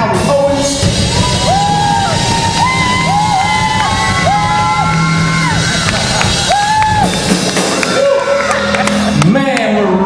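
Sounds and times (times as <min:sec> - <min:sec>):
rock band playing: 0:00.0 - 0:10.0
audience cheering and whooping: 0:00.8 - 0:09.3.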